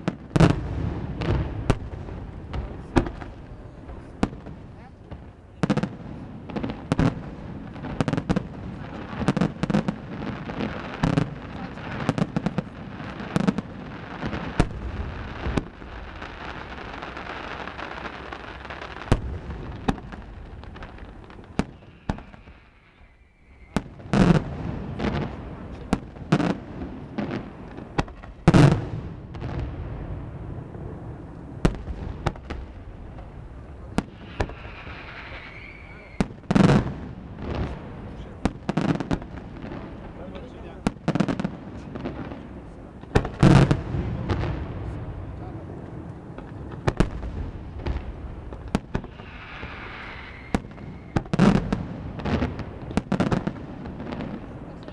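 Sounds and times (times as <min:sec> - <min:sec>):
fireworks bursting and crackling: 0:00.0 - 0:54.9.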